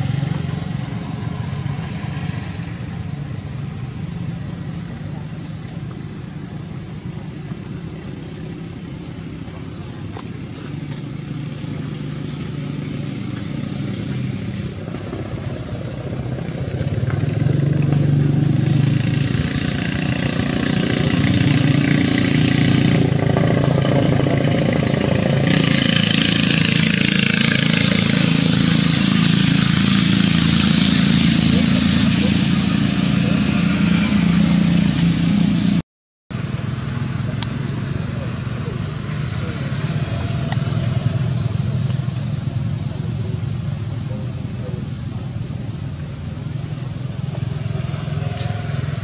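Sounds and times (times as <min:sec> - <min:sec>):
hiss: 0:00.0 - 0:35.8, 0:36.4 - 0:49.0
motor engine running: 0:00.0 - 0:49.0.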